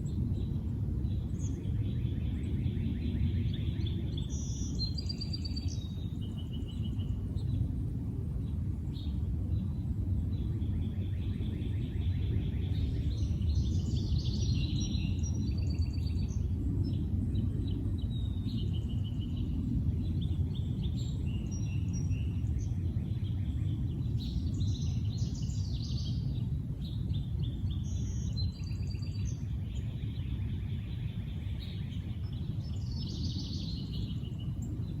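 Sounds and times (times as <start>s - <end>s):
low background rumble: 0.0s - 35.0s
songbirds chirping and trilling: 0.0s - 35.0s.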